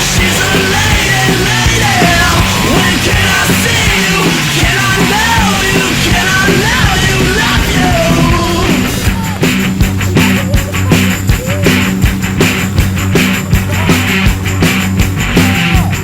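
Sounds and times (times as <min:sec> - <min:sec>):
punk rock music with yelled vocal: 0:00.0 - 0:16.0.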